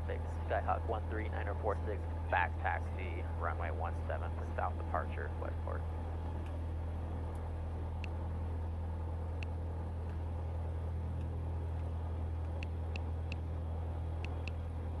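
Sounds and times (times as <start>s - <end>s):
plane engine idling: 0.0s - 15.0s.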